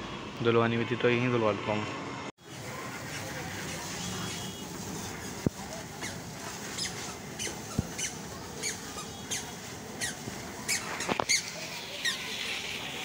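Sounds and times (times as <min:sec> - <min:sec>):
hose spraying water: 0:02.4 - 0:13.0.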